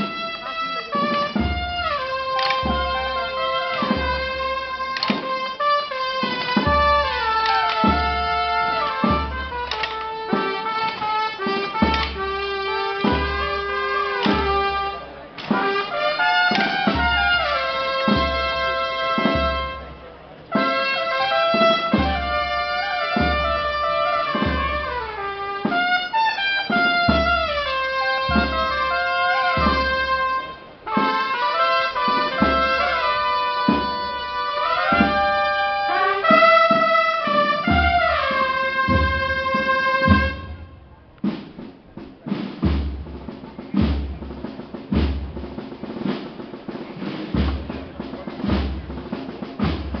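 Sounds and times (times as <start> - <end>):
brass band playing slow march: 0.0 - 50.0
snare drum strokes: 0.0 - 50.0.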